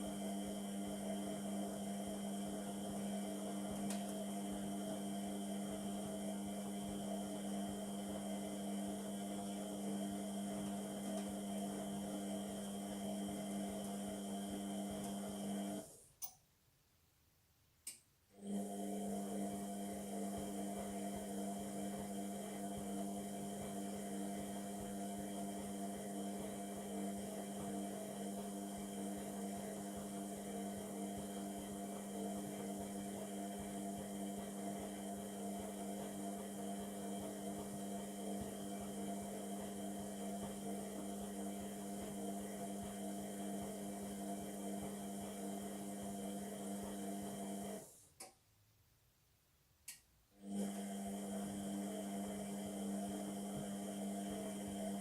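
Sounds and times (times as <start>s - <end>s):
washing machine hum: 0.0s - 16.1s, 18.3s - 48.2s, 50.4s - 55.0s.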